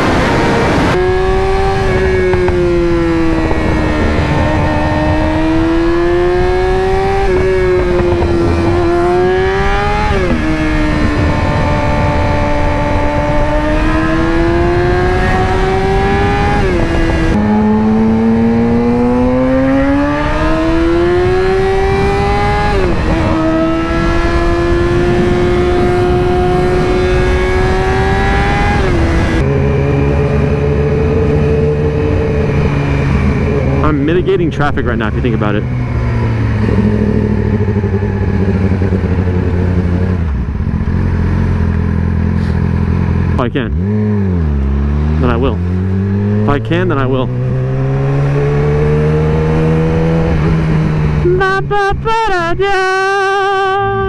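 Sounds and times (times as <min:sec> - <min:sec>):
rushing wind noise: 0:00.0 - 0:51.3
motorcycle engine shifting gears: 0:00.0 - 0:51.6.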